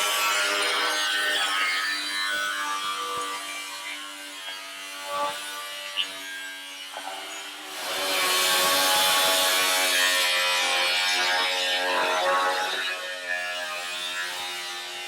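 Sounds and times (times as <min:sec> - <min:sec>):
power tool cutting sheet metal: 0:00.0 - 0:15.0.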